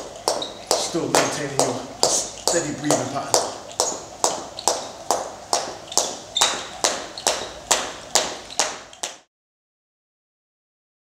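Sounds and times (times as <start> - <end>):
skipping rope slapping floor: 0.0 - 9.3.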